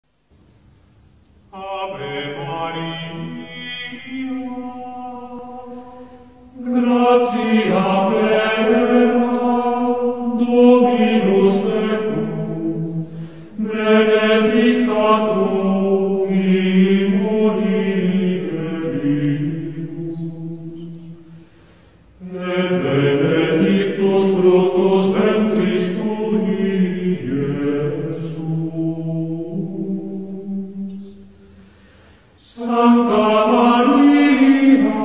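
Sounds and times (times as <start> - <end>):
plainchant singing: 1.5 - 21.4, 22.1 - 31.6, 32.4 - 35.0.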